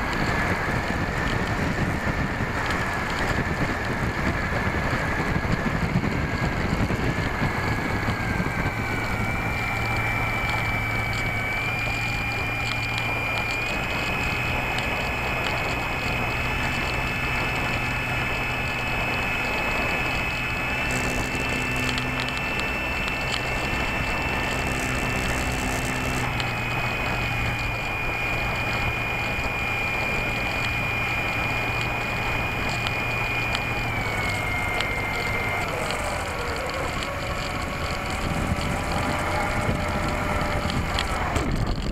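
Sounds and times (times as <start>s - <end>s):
electric motor and propeller whine: 0.0s - 41.9s
wind rush: 0.0s - 41.9s.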